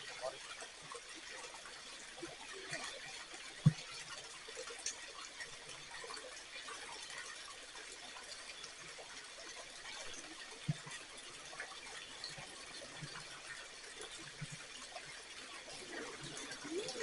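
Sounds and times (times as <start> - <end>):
faint flowing water: 0.0 - 17.0.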